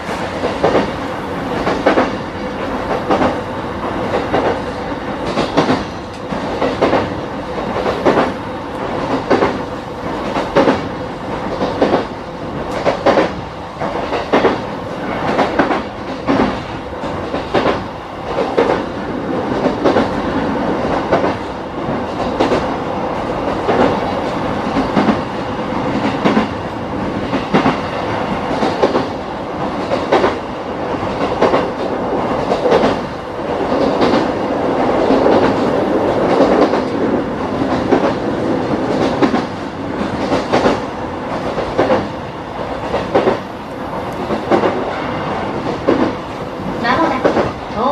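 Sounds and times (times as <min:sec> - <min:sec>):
train rumble: 0:00.0 - 0:47.9.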